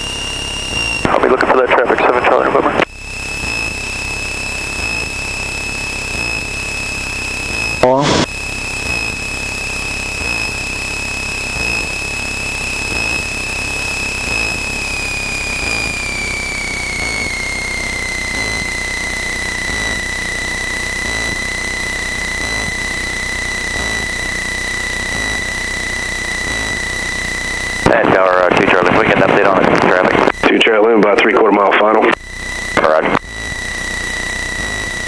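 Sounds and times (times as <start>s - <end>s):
airplane engine and propeller drone: 0.0s - 35.0s
high whine: 0.0s - 35.0s.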